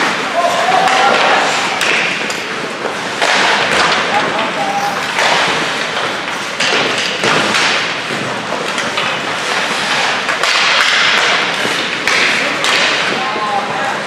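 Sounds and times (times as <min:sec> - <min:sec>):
hockey sticks and puck knocking: 0:00.0 - 0:14.0
skate blades scraping ice: 0:00.0 - 0:14.0.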